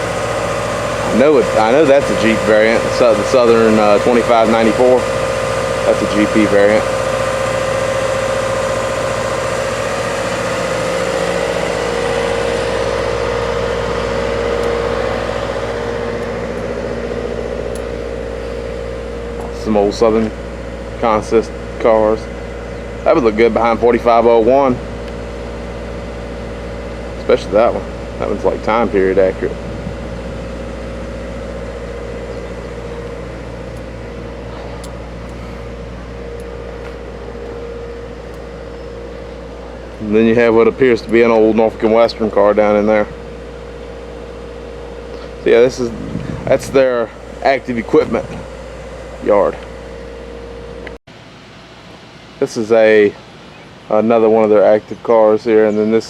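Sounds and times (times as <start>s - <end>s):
diesel locomotive idling: 0.0s - 56.0s
machine droning: 0.0s - 56.0s.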